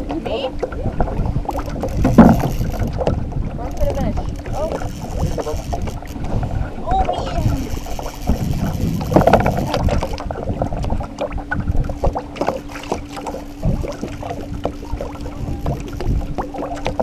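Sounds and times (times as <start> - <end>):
steady hum: 0.0 - 17.0
water slapping against boat hull: 0.0 - 17.0.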